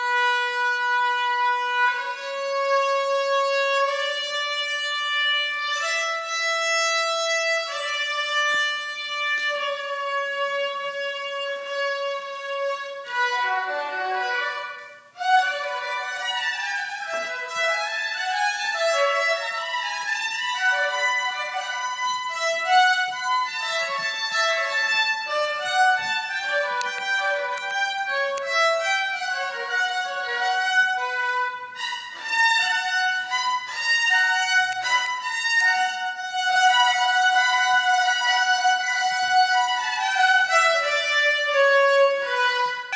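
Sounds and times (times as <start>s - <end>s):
solo violin playing: 0.0s - 42.9s.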